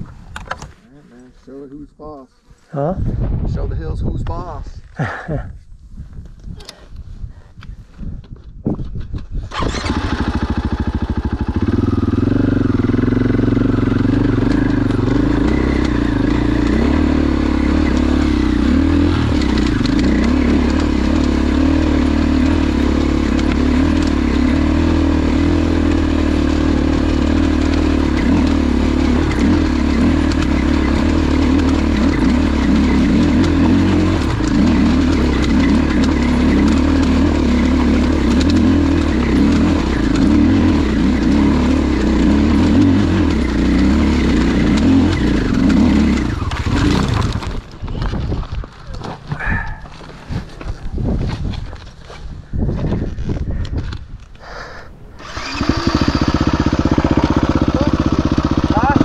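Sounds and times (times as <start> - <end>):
dirt bike engine under load: 8.0 - 59.0.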